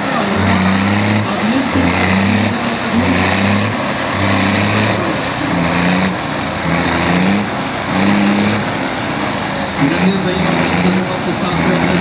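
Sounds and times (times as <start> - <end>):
diesel engine under heavy load: 0.0 - 12.0.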